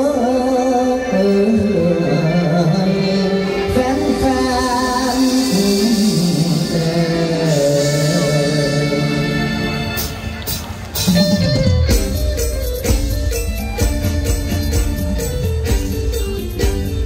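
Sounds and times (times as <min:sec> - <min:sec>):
classical stage music with singing: 0:00.0 - 0:17.0.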